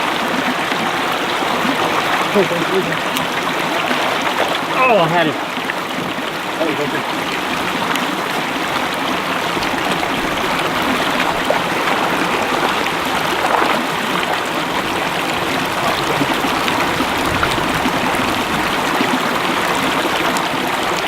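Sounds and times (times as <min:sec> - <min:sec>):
creek water babbling: 0:00.0 - 0:21.0.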